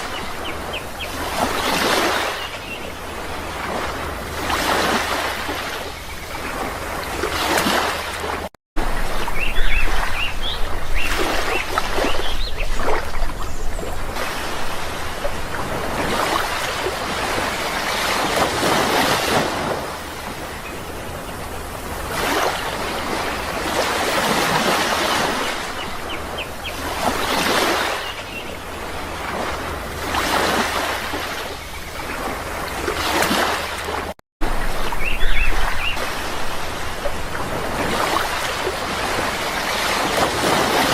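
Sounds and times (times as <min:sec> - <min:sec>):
sea waves surging and washing back: 0:00.0 - 0:40.9.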